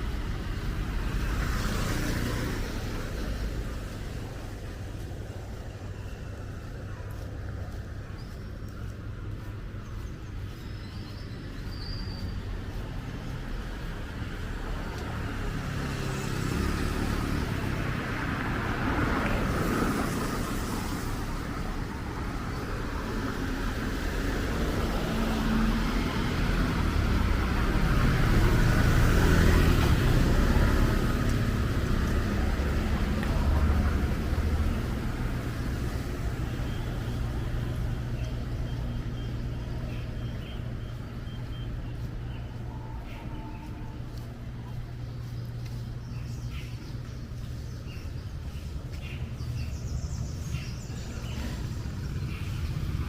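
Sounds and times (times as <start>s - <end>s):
vehicles passing: 0.0s - 53.0s.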